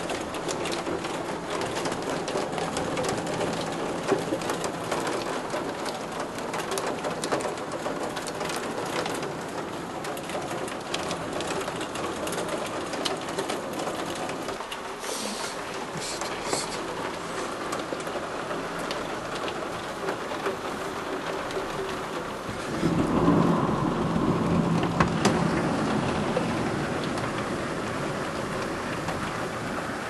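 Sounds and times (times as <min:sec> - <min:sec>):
rain hissing on a window: 0:00.0 - 0:30.0
sharp raindrop impacts: 0:00.0 - 0:30.0.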